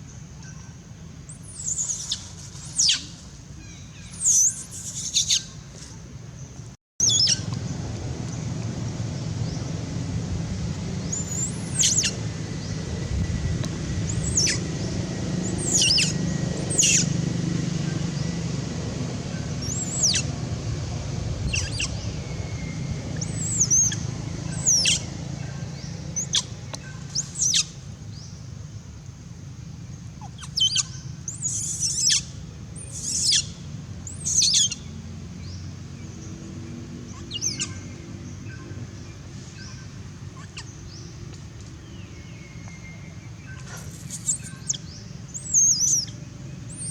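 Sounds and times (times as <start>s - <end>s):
low background rumble: 0.0s - 46.9s.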